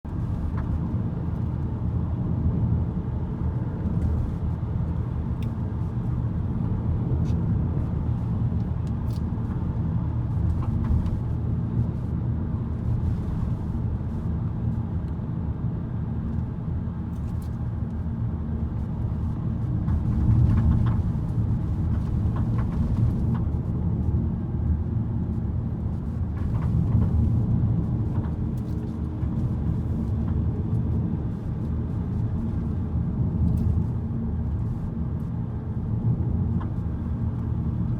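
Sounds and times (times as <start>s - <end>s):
car engine low rumble: 0.0s - 37.9s.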